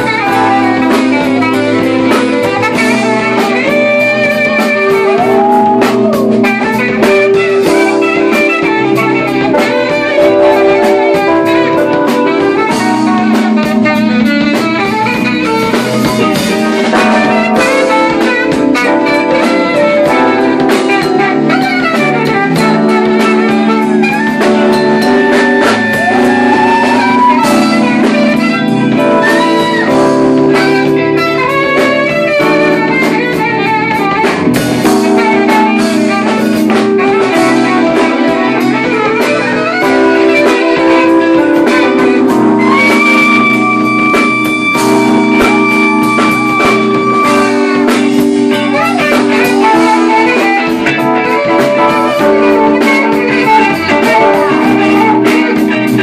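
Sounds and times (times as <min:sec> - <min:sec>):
drum kit: 0:00.0 - 0:56.0
electric guitar: 0:00.0 - 0:56.0
saxophone: 0:00.0 - 0:56.0.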